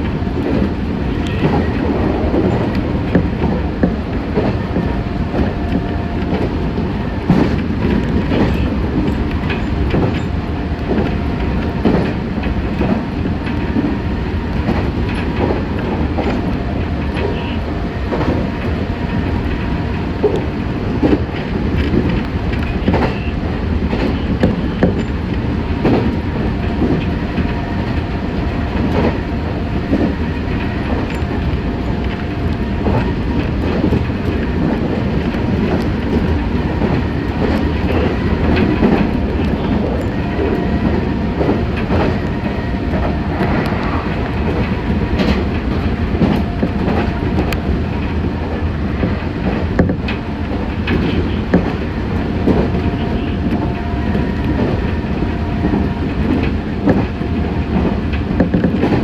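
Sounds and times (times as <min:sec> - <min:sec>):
clacks over rail joints: 0:00.0 - 0:59.0
train wheels rumbling on rail: 0:00.0 - 0:59.0.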